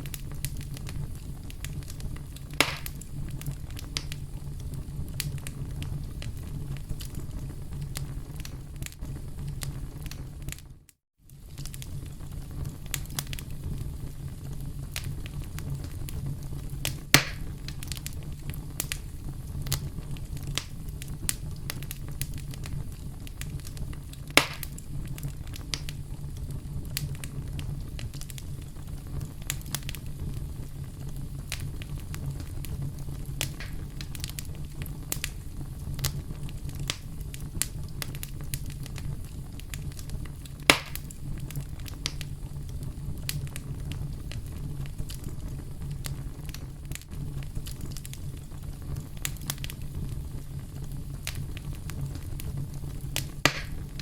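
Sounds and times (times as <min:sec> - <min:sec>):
burning wood popping: 0:00.0 - 0:54.0
campfire crackling: 0:00.0 - 0:54.0.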